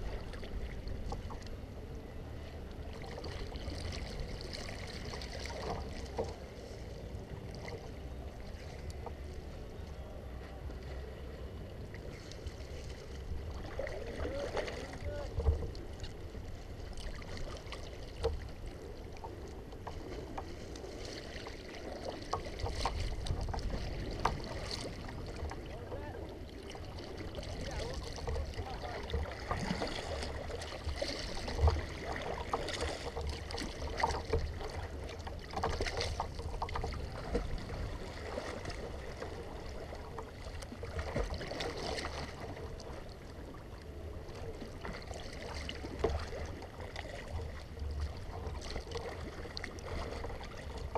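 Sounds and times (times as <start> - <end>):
paddle splashes: 0.0 - 1.7, 2.4 - 50.9
water lapping against hull: 0.0 - 50.9.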